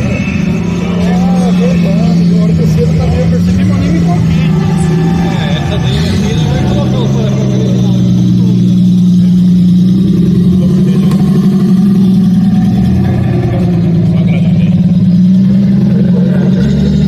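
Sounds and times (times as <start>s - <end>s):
car engine droning while driving: 0.0s - 17.0s.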